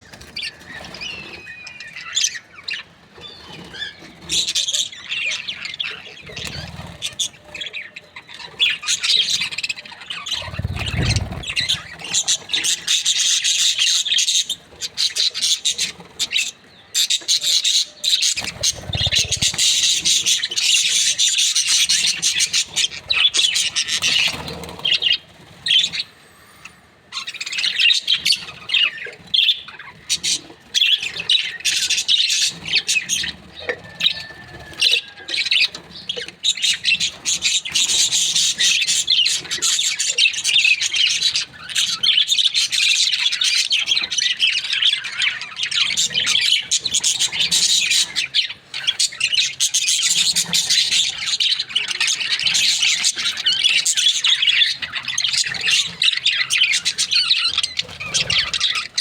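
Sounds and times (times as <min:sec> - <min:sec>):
budgerigars chirping: 0:00.1 - 0:26.1, 0:27.1 - 0:59.0.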